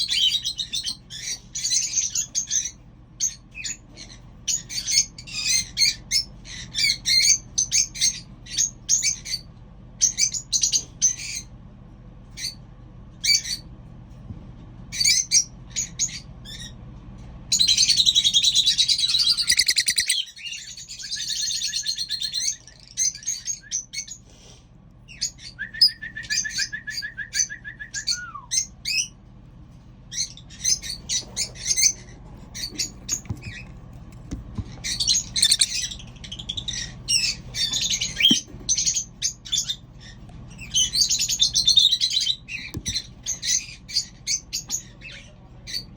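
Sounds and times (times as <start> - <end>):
small birds chirping: 0.0 - 11.6, 12.3 - 14.2, 14.9 - 45.9.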